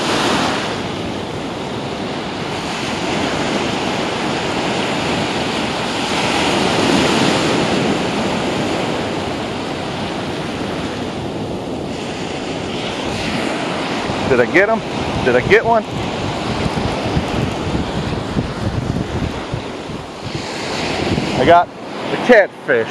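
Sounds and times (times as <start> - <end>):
small ocean waves breaking: 0.0 - 22.9.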